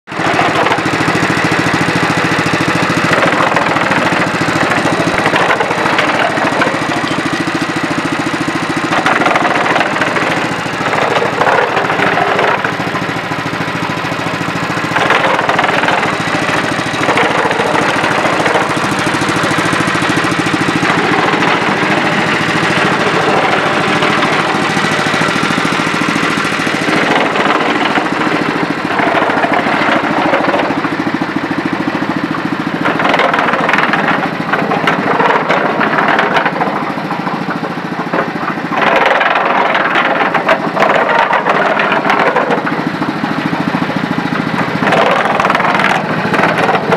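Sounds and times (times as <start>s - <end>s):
concrete mixer gas engine running: 0.0s - 46.9s.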